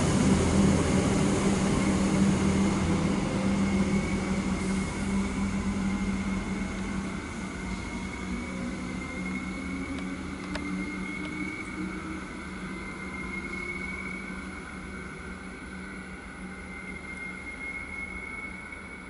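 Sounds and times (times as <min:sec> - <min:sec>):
electric train humming and whining: 0:00.0 - 0:19.0.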